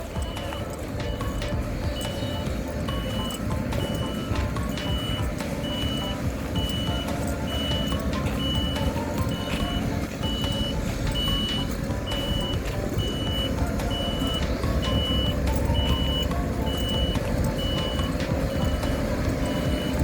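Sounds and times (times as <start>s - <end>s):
diesel engine rumble: 0.0s - 20.0s
reversing alarm beeping: 0.0s - 20.0s.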